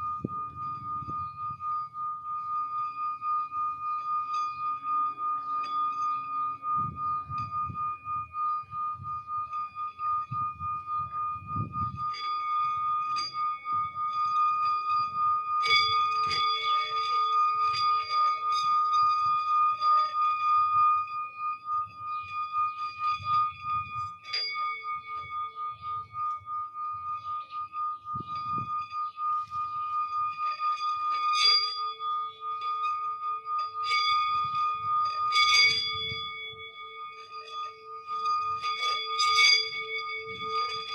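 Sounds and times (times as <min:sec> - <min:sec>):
singing bowl ringing high tone: 0:00.0 - 0:40.9.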